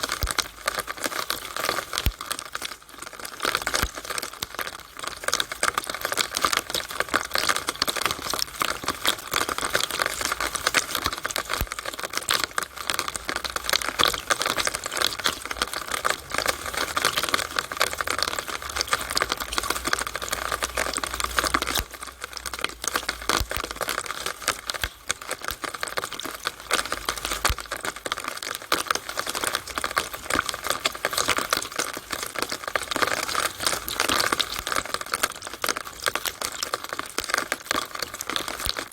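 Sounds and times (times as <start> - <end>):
rainwater running through downspout: 0.0 - 38.9.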